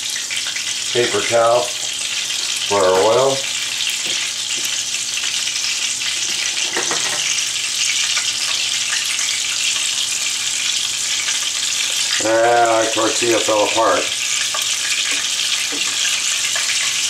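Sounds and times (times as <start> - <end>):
sausage sizzling in oil: 0.0 - 17.0.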